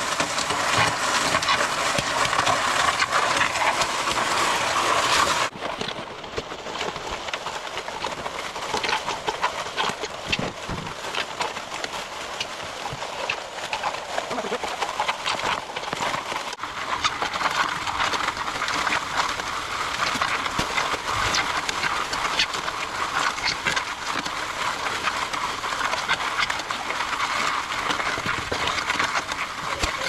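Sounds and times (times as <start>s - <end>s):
concrete mixer running: 0.0s - 30.0s
gravel and stones churning: 0.0s - 30.0s.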